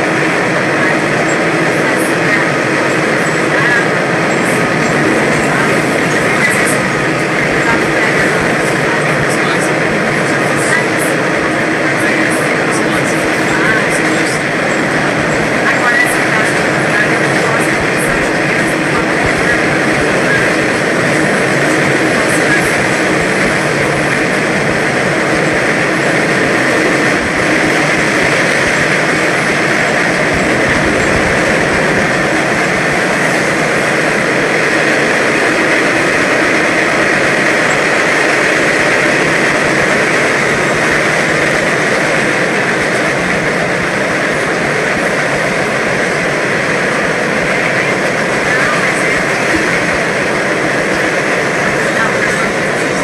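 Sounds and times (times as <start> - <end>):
subway train wheels on track: 0.0 - 53.0.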